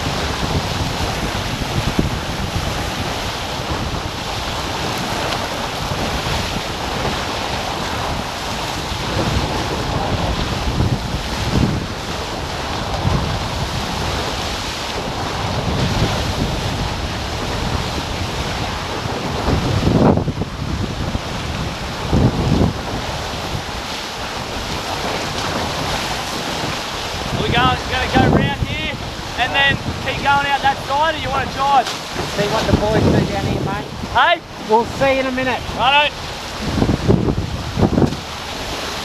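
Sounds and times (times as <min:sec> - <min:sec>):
water rushing: 0:00.0 - 0:39.0
wind buffeting microphone: 0:00.0 - 0:39.0.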